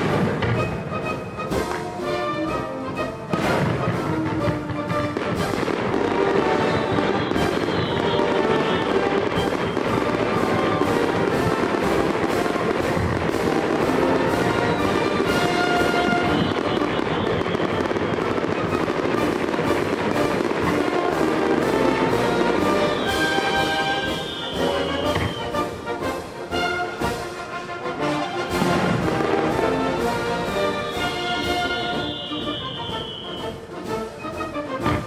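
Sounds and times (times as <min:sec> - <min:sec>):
fireworks bursting and crackling: 0:00.0 - 0:27.4, 0:28.4 - 0:33.6
music playing: 0:00.0 - 0:35.0.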